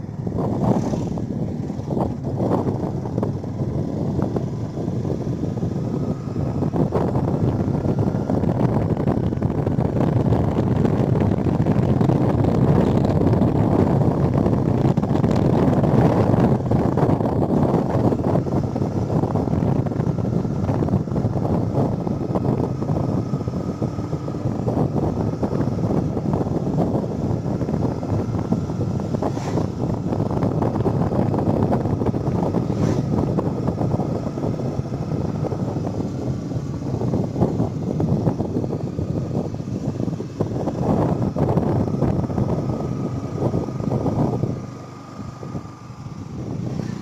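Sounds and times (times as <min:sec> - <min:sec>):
motorcycle engine running: 0:00.0 - 0:47.0
wind on microphone: 0:00.0 - 0:47.0.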